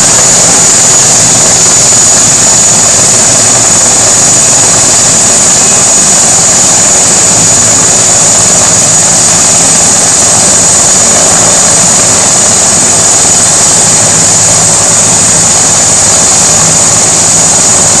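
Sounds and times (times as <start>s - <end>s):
helicopter rotors whooshing: 0.0s - 18.0s
helicopter turbine whine: 0.0s - 18.0s.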